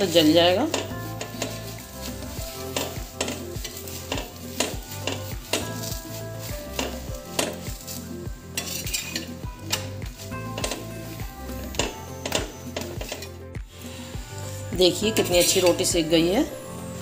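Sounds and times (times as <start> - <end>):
spatula scraping on hot griddle: 0.0 - 15.7
background music with steady beat: 0.0 - 17.0.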